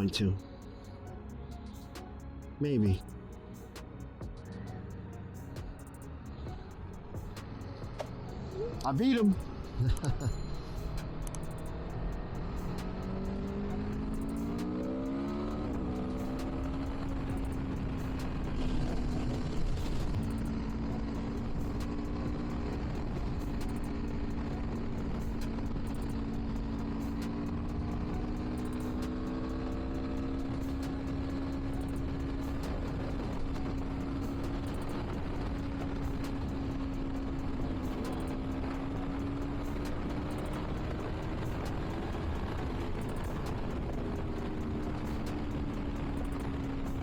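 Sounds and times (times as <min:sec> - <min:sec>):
wind and road noise: 0:00.0 - 0:47.0
motorcycle engine revving: 0:05.6 - 0:47.0.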